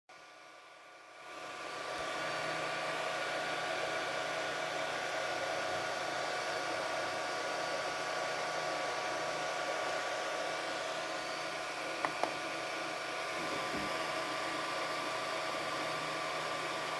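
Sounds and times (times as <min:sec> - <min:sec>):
printer fans whirring: 0:00.3 - 0:16.9.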